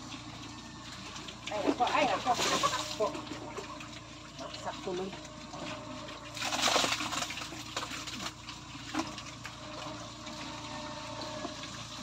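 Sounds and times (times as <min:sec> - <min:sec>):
pigs eating at a trough: 0:00.0 - 0:12.0.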